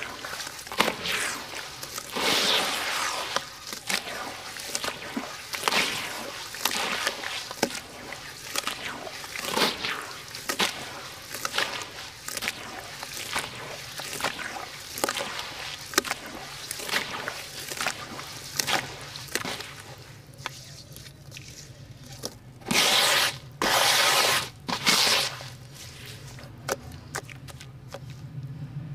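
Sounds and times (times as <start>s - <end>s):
watery mix swishing: 0.0s - 28.3s
wet slurry squelching by hand: 0.0s - 28.3s.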